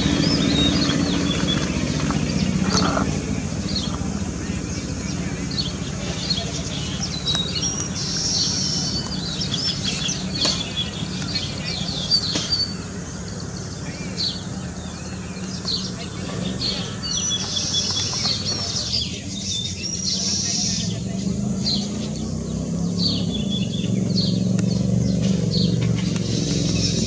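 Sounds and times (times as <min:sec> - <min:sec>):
birds chattering: 0:00.0 - 0:27.0.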